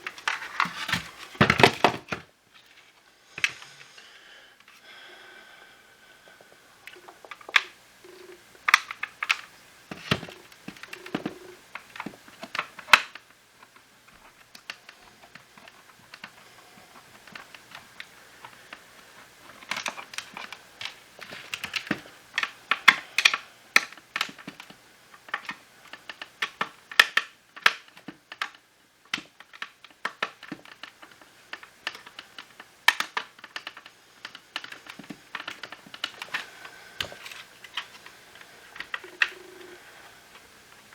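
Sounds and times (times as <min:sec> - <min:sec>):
plastic parts clicking and clattering: 0:00.0 - 0:03.6, 0:06.9 - 0:38.1.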